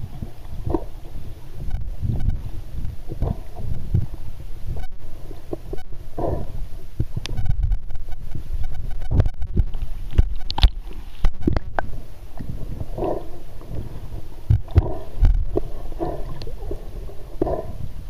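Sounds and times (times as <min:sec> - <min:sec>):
underwater rumble of sea water: 0:00.0 - 0:18.0.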